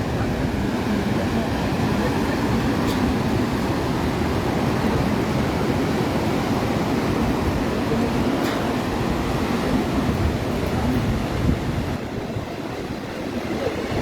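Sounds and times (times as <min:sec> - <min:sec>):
surf washing: 0:00.0 - 0:14.0
wind buffeting microphone: 0:00.0 - 0:14.0.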